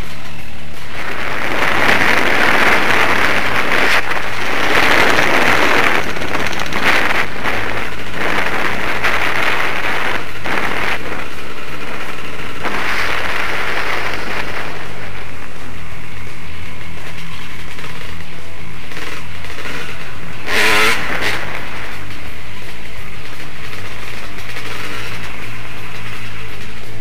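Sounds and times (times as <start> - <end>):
dirt bike engine running: 0.0 - 27.0
wind on microphone: 0.0 - 27.0.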